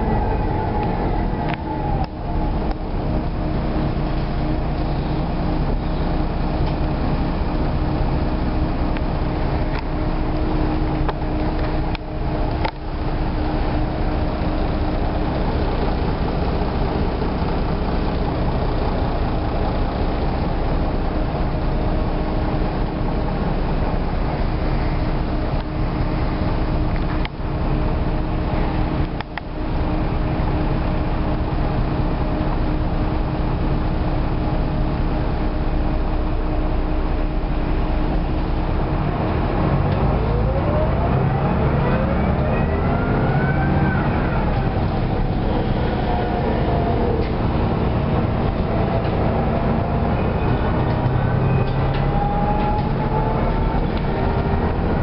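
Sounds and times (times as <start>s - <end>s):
bus engine and gearbox: 0.0s - 55.0s
road rumble: 0.0s - 55.0s.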